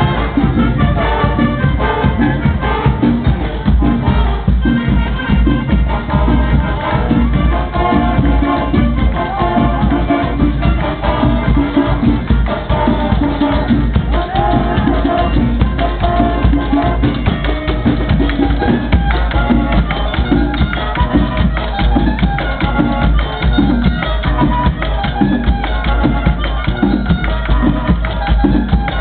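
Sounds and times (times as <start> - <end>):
marching band playing: 0.0 - 29.0.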